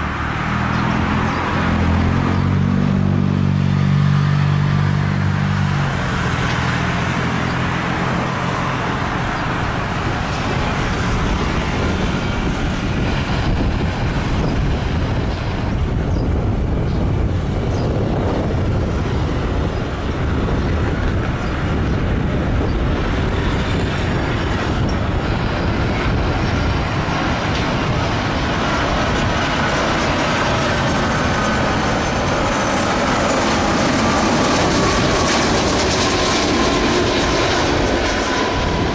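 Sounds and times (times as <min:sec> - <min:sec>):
jet engines roaring: 0:00.0 - 0:38.9.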